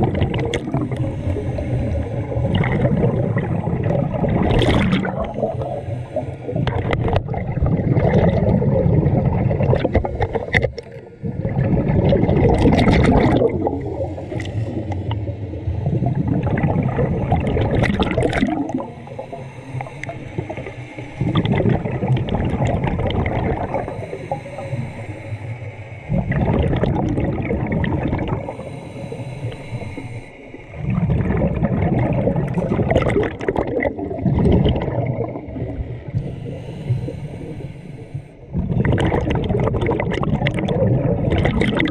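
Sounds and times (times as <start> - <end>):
diver inhaling through regulator: 0.0 - 7.2, 12.4 - 40.7
bubbles gurgling underwater: 0.0 - 25.0, 26.0 - 28.6, 30.6 - 36.6, 38.4 - 41.9.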